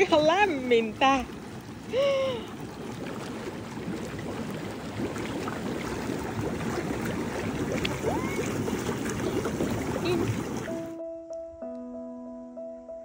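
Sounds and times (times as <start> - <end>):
hot tub jets bubbling: 0.0 - 11.0.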